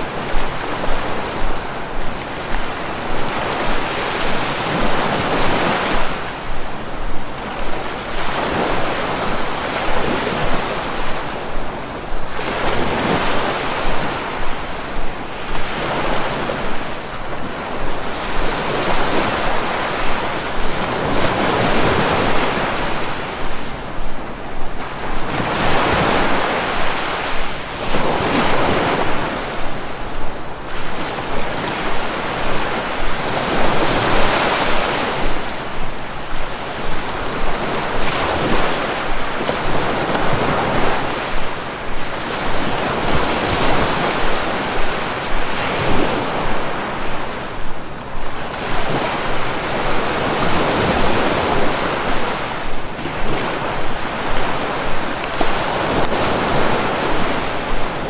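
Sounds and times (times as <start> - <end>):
sea waves breaking on shore: 0.0 - 58.0
wind: 0.0 - 58.0.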